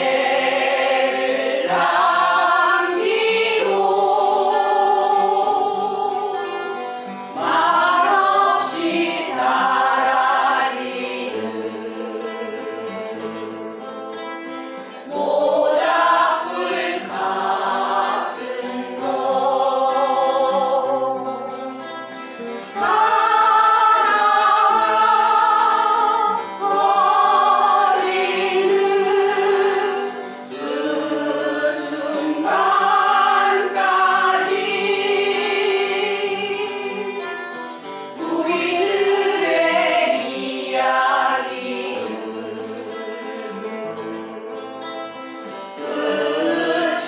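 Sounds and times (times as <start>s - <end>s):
strummed acoustic guitar: 0.0s - 47.0s
voices singing folk song: 0.0s - 47.0s.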